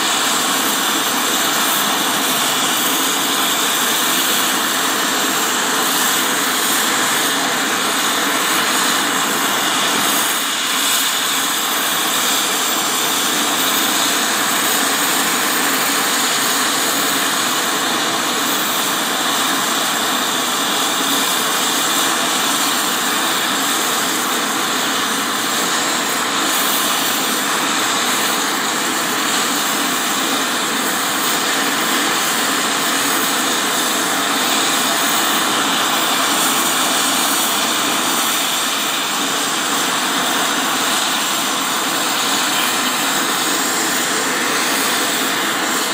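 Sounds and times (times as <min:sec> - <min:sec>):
jet engines idling: 0:00.0 - 0:45.9.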